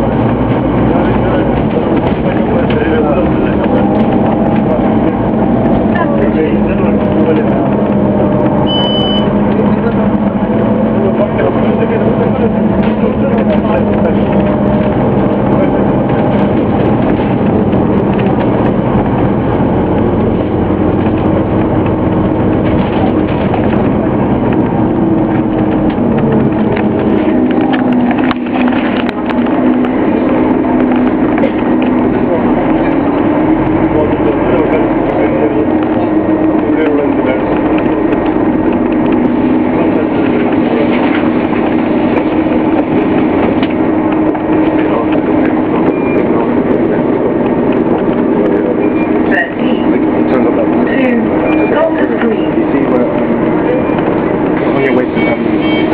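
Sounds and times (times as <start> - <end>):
bus diesel engine running: 0.0 - 55.9.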